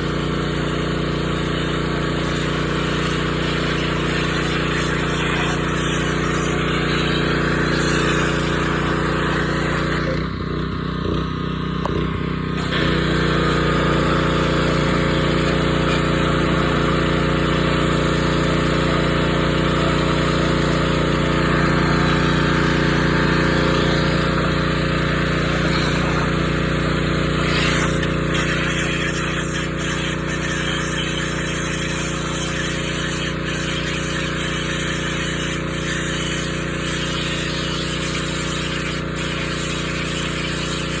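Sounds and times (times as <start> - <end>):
pressure washer motor hum: 0.0 - 41.0
high-pressure water spray hiss: 0.5 - 10.0, 12.6 - 41.0.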